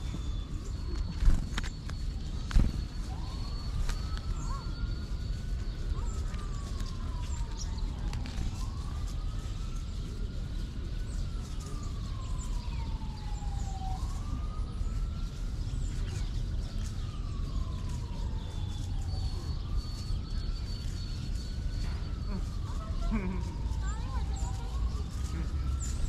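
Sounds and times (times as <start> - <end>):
emergency vehicle siren wailing: 0.0 - 26.0
steady low rumble: 0.0 - 26.0.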